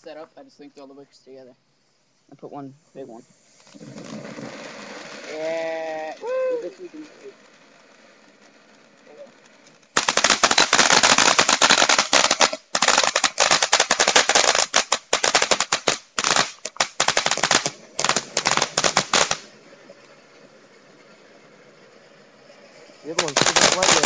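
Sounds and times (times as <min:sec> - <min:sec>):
fireworks crackling and popping: 0:03.3 - 0:24.0.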